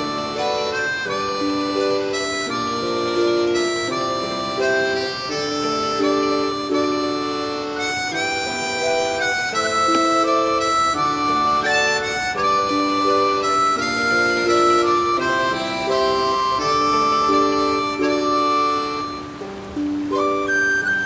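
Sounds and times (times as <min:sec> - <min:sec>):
harmonica and guitar music: 0:00.0 - 0:21.0.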